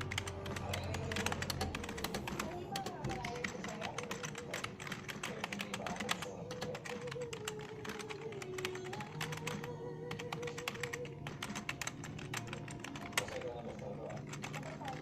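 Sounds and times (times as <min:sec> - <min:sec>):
background music with held notes: 0:00.0 - 0:15.0
computer keyboard typing: 0:00.0 - 0:15.0.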